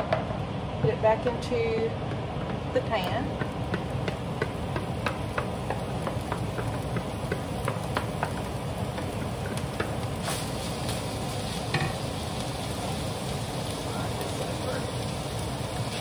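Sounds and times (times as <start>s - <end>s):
meat sizzling: 1.5s - 16.0s.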